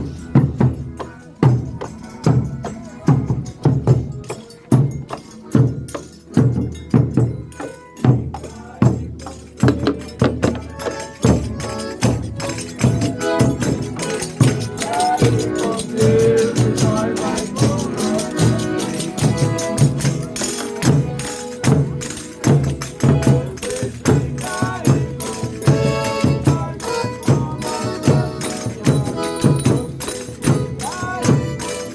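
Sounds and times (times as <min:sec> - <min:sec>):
sustained pitched instruments: 0:00.0 - 0:31.9
tambourine beating: 0:00.0 - 0:31.9.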